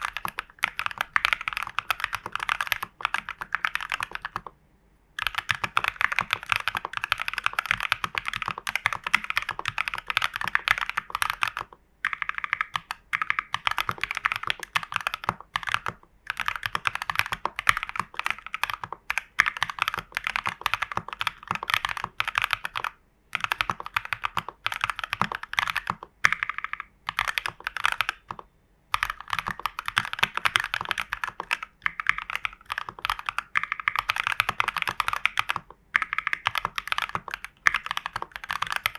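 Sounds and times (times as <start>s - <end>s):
typing on mechanical keyboard: 0.0s - 4.5s, 5.2s - 38.9s.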